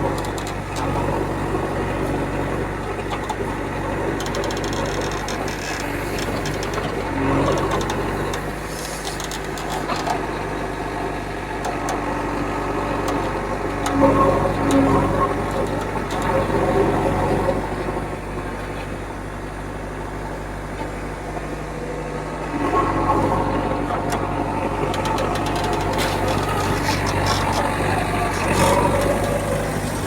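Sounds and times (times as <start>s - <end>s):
diesel engines running: 0.0s - 30.0s.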